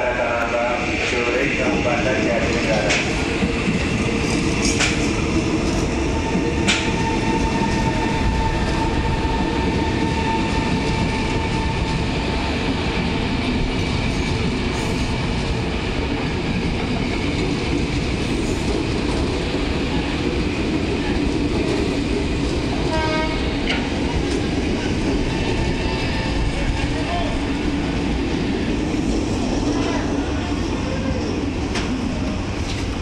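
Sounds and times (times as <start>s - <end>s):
wheels rumbling on rails: 0.1s - 33.0s.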